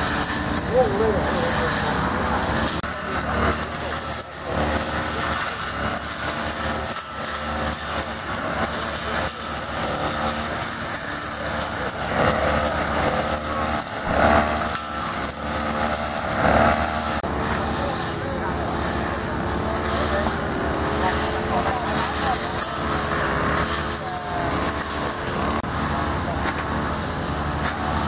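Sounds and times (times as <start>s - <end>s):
brush cutters running: 0.0s - 28.0s.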